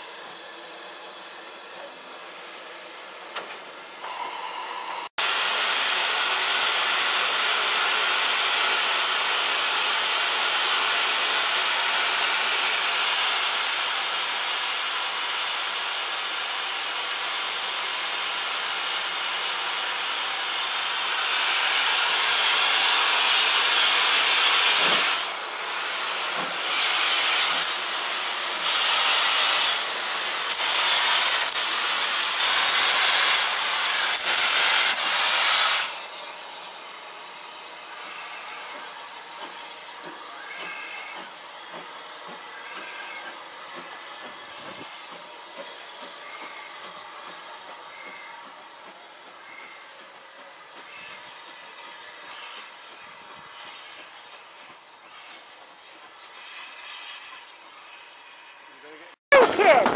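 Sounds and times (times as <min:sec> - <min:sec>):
steam hissing: 0:00.0 - 0:59.8
steam locomotive chuffing: 0:00.0 - 0:59.9.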